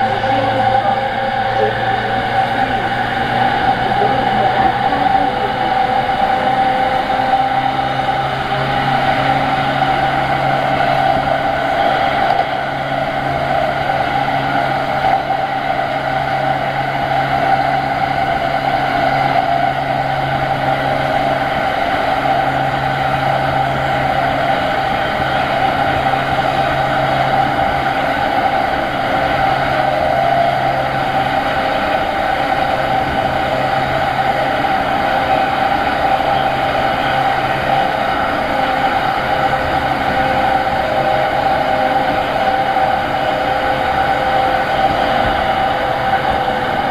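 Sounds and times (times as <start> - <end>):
electric train whine and hum: 0.0 - 46.9
train wheels on rails: 0.0 - 46.9.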